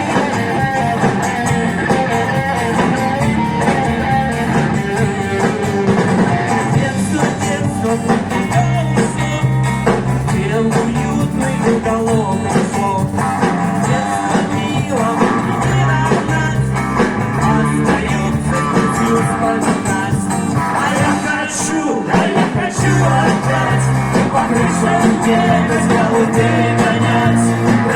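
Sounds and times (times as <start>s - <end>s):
live band playing pop-rock: 0.0s - 27.9s
person singing: 0.0s - 27.9s.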